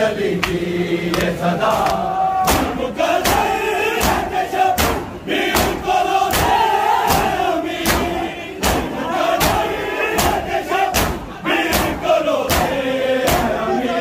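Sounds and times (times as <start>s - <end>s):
crowd mourning chant: 0.0s - 14.0s.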